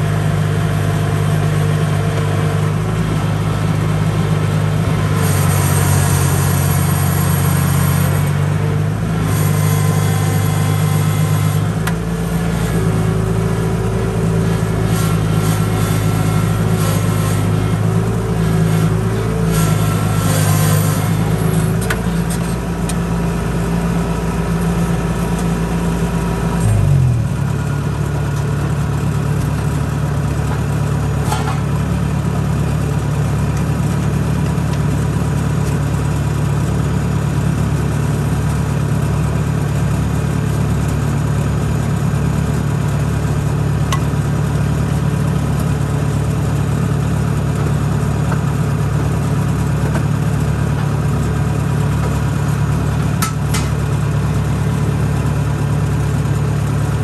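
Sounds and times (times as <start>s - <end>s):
harvester engine running: 0.0s - 57.0s.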